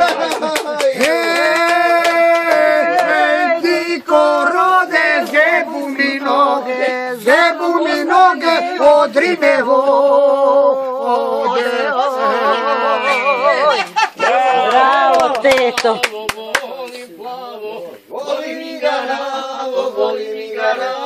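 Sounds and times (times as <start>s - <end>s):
man and woman singing: 0.1s - 21.0s.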